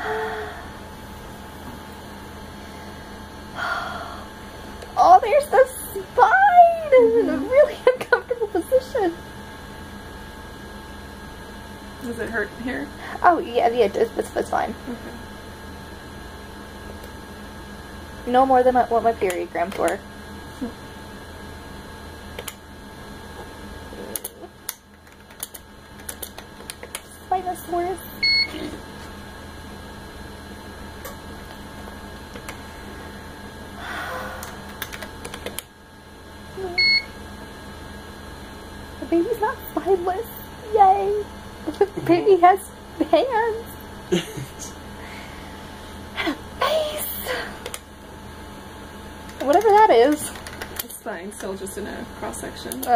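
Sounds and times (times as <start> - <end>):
low room hum: 0.0 - 52.9.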